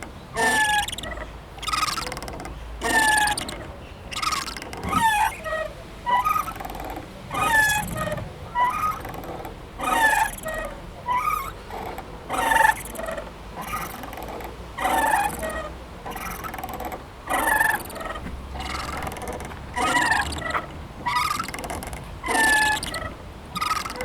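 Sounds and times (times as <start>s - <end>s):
swing creaking: 0.0s - 24.0s.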